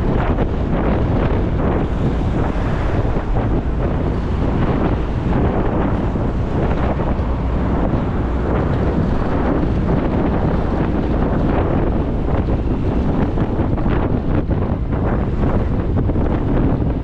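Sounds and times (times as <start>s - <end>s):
motorcycle running: 0.0s - 17.0s
road noise: 0.0s - 17.0s
wind buffeting microphone: 0.0s - 17.0s.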